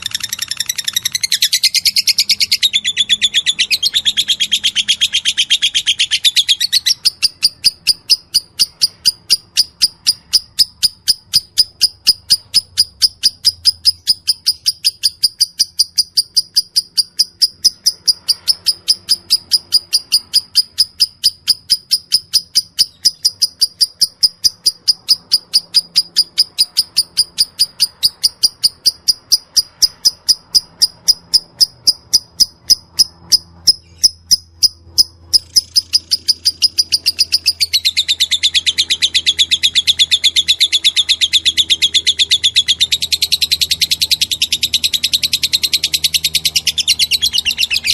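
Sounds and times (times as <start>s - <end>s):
lovebird chirping: 0.0s - 47.9s.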